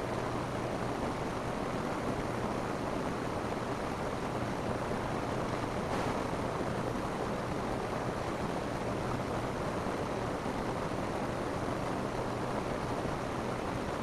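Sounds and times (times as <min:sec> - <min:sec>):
rain falling on a roof: 0:00.0 - 0:14.0.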